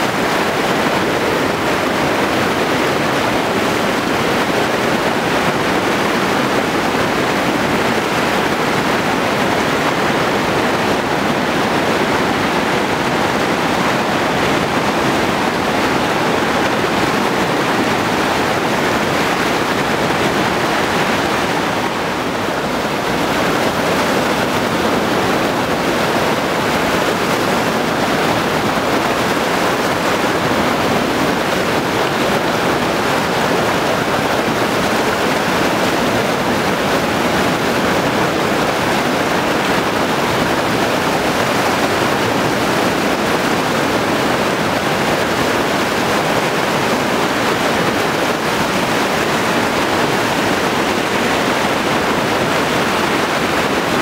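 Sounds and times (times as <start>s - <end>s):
loud rushing river water: 0.0s - 54.0s.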